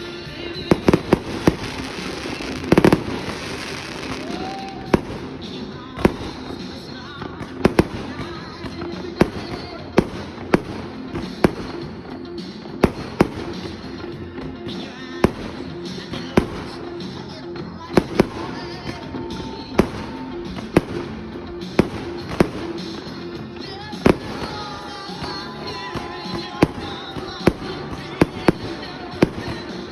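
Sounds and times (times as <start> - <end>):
background music: 0.0 - 29.9
firework bangs: 0.0 - 29.9.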